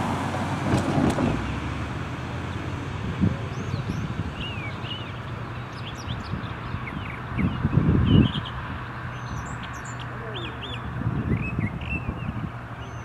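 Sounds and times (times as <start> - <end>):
small birds chirping: 2.3 - 13.0.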